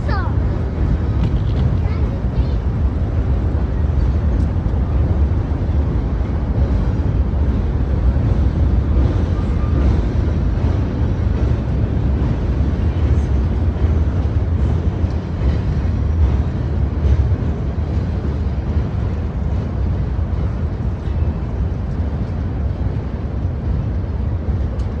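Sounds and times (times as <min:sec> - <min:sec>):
faint train clacks: 0:00.0 - 0:25.0
freight train rumbling past: 0:00.0 - 0:25.0.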